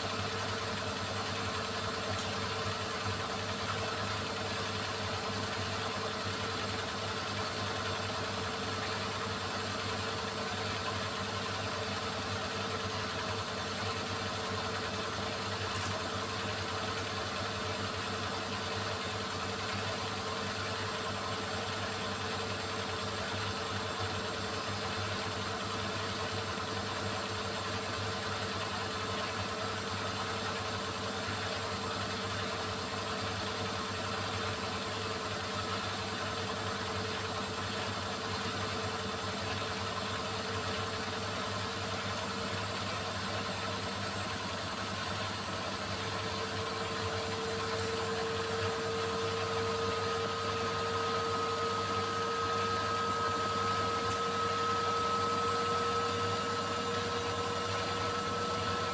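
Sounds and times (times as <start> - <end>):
washing machine running: 0.0 - 58.9.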